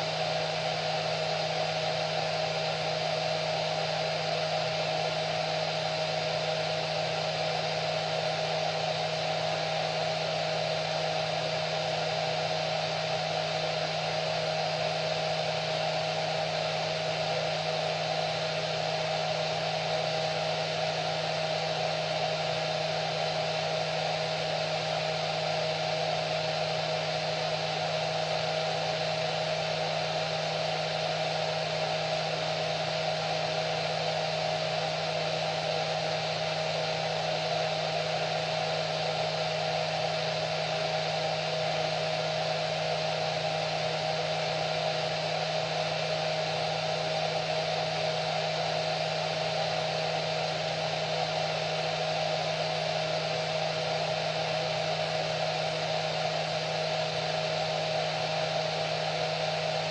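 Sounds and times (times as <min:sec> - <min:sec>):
hair dryer running: 0:03.7 - 0:59.9.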